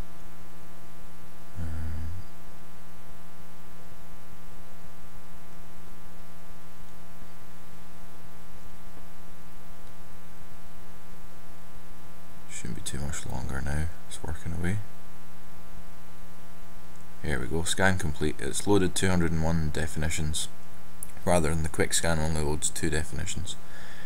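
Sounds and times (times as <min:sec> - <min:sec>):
electrical mains hum: 0:00.0 - 0:24.0
recording hiss: 0:01.0 - 0:11.1, 0:12.3 - 0:15.8, 0:16.7 - 0:24.0.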